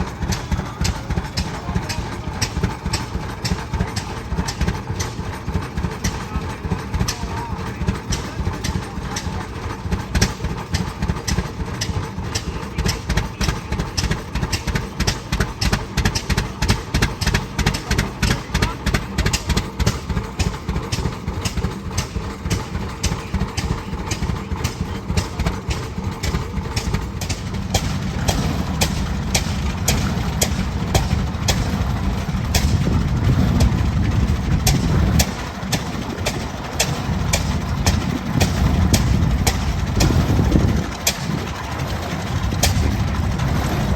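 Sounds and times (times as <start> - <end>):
deep rumble: 0.0 - 43.9
tractor engine running: 0.0 - 43.9.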